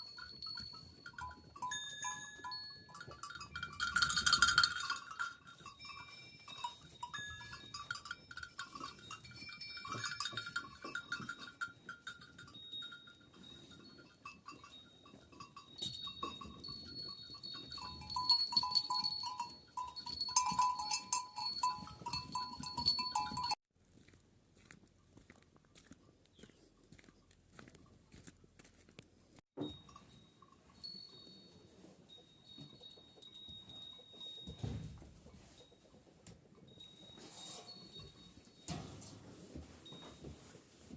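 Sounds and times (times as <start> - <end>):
sheep bells ringing: 0.0 - 23.6, 29.6 - 39.1.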